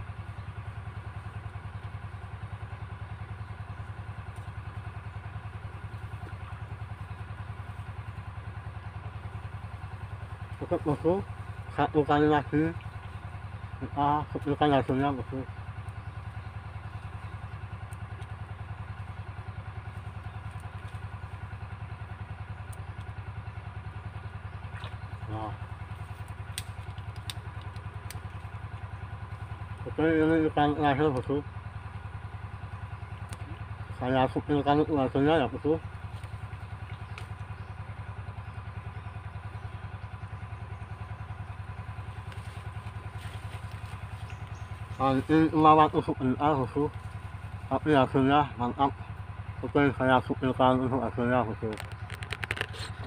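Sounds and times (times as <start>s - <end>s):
small engine idling: 0.0s - 53.0s.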